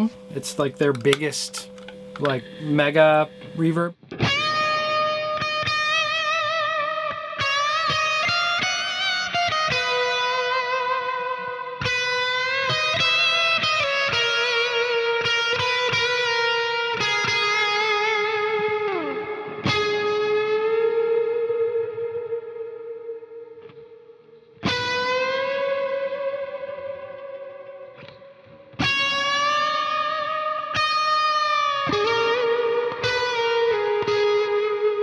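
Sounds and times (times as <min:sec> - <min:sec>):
electric guitar with heavy reverb: 0:00.0 - 0:35.0.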